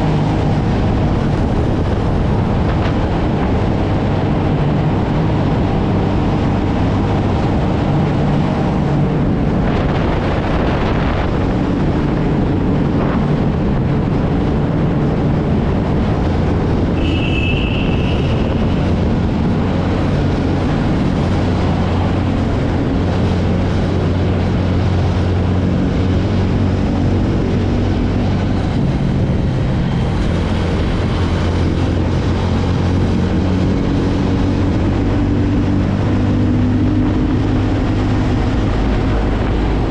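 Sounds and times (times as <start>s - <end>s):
motorcycle engine and exhaust: 0.0s - 39.9s
wind and road noise: 0.0s - 39.9s.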